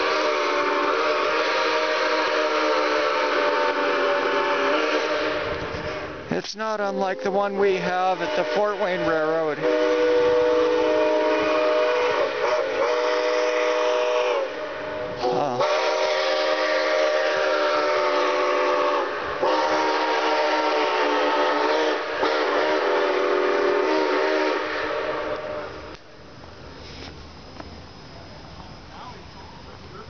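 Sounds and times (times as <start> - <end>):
steam locomotive chime whistle: 0.0 - 26.0.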